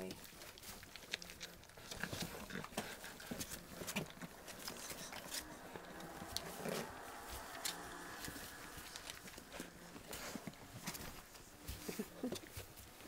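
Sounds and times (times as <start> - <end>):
paws rustling in wood shavings: 0.0 - 13.0
puppies making small vocal noises: 0.0 - 13.0.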